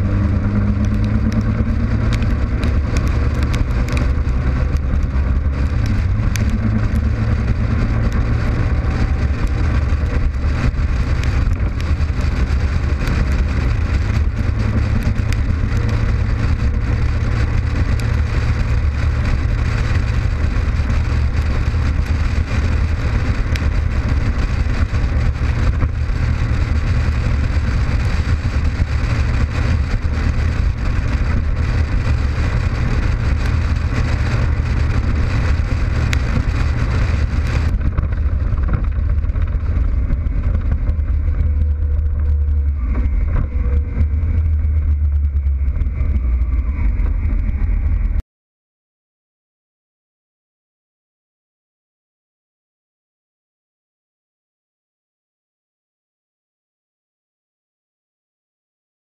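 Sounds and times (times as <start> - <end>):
motorcycle engine cruising: 0.0 - 48.2
road noise: 0.0 - 48.2
wind rush: 0.0 - 48.2.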